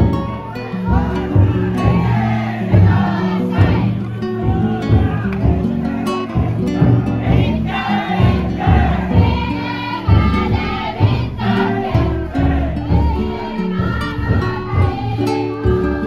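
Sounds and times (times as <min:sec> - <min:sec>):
low drum beat: 0:00.0 - 0:16.0
many voices singing in unison: 0:00.0 - 0:16.0.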